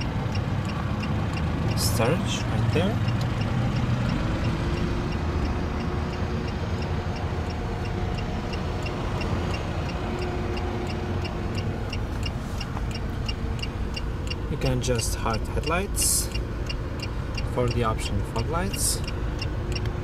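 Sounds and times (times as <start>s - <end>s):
car engine idling: 0.0s - 20.0s
light regular ticking: 0.0s - 20.0s.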